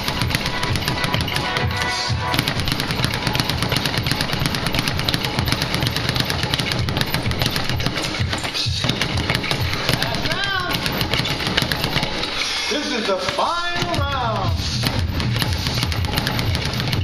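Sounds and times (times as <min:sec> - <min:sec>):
speed bag being punched: 0:00.0 - 0:12.4, 0:13.2 - 0:17.0.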